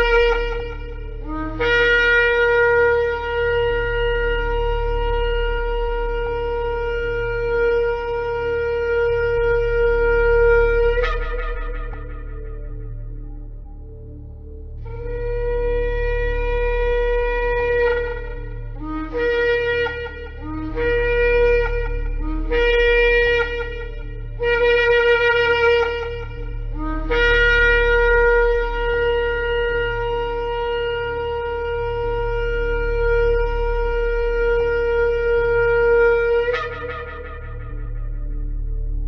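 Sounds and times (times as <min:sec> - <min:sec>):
shofar blasts: 0:00.0 - 0:14.2, 0:14.8 - 0:39.0.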